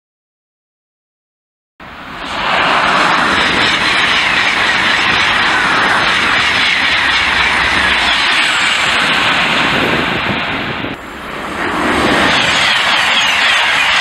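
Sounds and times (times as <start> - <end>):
high-speed train passing: 1.8 - 14.0.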